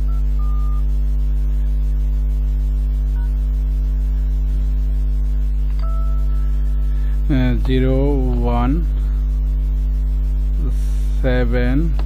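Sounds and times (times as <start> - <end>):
loud electrical mains hum: 0.0 - 12.0.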